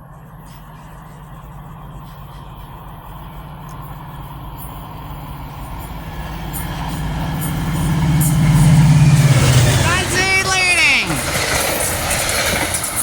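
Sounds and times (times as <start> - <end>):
train approaching with low rumble: 0.0 - 13.0.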